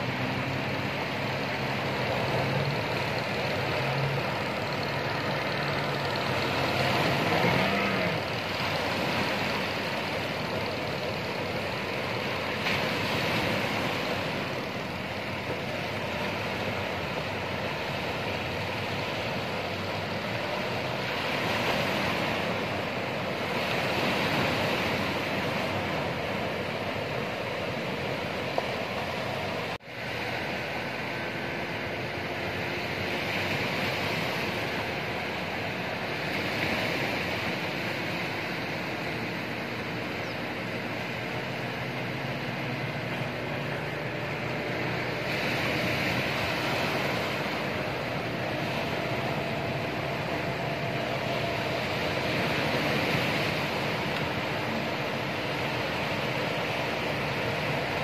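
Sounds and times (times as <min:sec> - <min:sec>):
faint boat outboard motor: 0:00.0 - 0:58.0
ocean surf breaking: 0:00.0 - 0:58.0.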